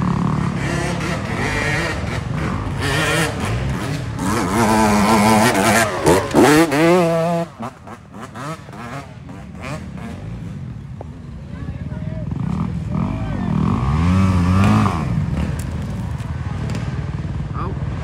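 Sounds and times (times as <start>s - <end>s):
dirt bike engine revving: 0.0s - 10.8s, 12.2s - 18.0s.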